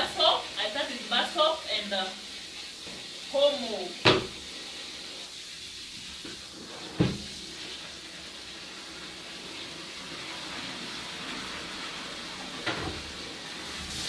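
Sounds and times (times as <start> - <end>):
laundry washed by hand hissing: 0.0 - 14.0.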